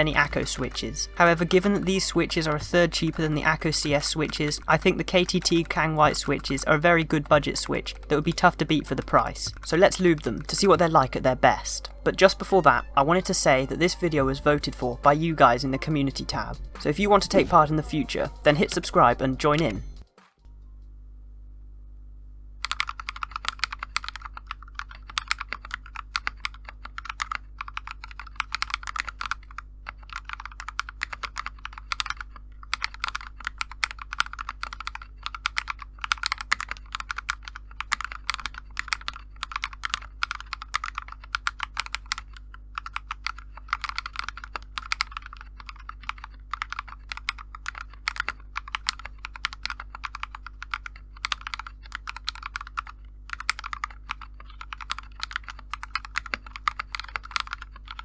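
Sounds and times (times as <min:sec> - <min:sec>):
mechanical keyboard typing: 0:00.0 - 0:20.0, 0:22.6 - 0:58.0.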